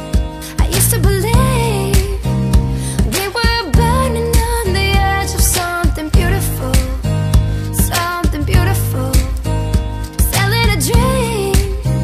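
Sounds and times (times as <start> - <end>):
backing chords and beat: 0.0 - 12.0
person singing pop song: 0.0 - 12.0.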